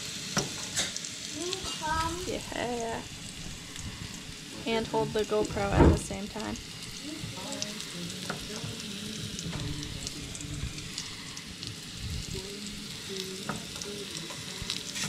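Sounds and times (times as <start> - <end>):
mushrooms sizzling in oil: 0.0 - 15.0.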